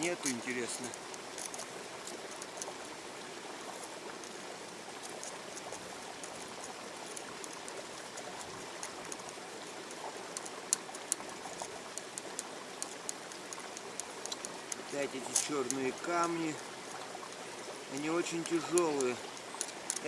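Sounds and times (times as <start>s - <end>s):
light ticks and clicks: 0.0s - 2.8s, 5.0s - 17.0s, 18.0s - 20.0s
water trickling: 0.0s - 20.0s.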